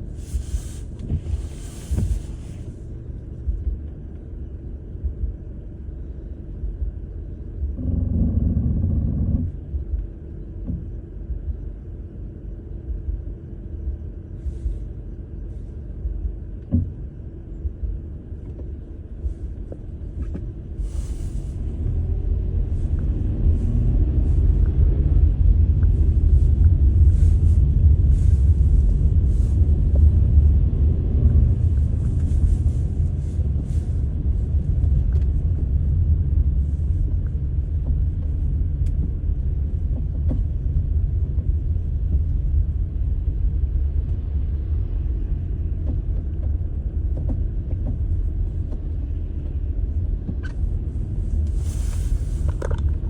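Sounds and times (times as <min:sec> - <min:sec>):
low uneven rumble: 0:00.0 - 0:53.0.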